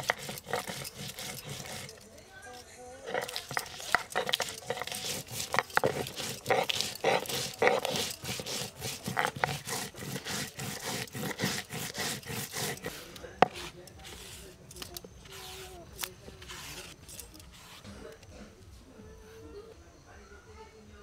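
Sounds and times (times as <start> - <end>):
stone scraping on stone: 0.0 - 18.2.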